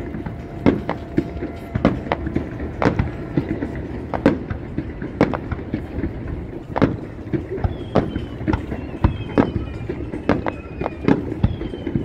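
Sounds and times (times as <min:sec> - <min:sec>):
fireworks bangs and cracks: 0:00.0 - 0:12.0
steady background din: 0:00.0 - 0:12.0.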